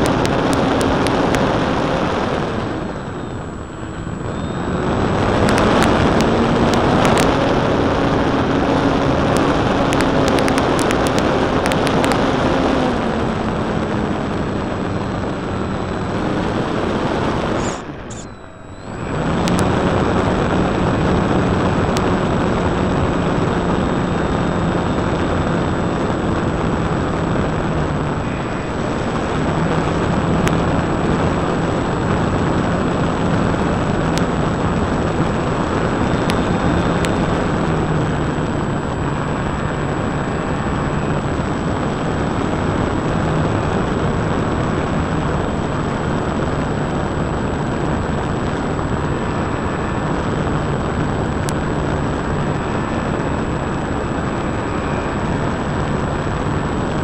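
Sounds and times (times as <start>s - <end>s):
propeller drone: 0.0s - 57.0s
wind rush on microphone: 0.0s - 57.0s.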